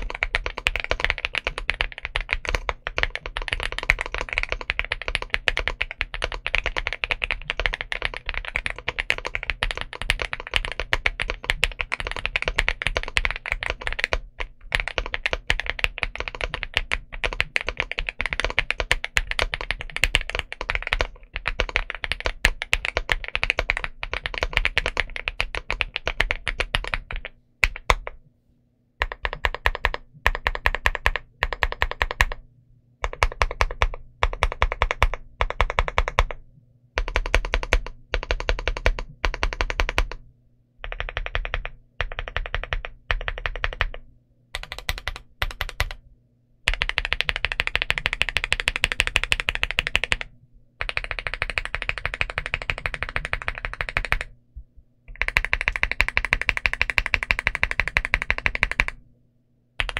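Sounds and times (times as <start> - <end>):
fast mechanical keyboard typing: 0.0 - 28.2, 29.0 - 32.4, 33.0 - 36.4, 37.0 - 40.2, 40.8 - 44.0, 44.6 - 46.0, 46.7 - 54.3, 55.1 - 59.0.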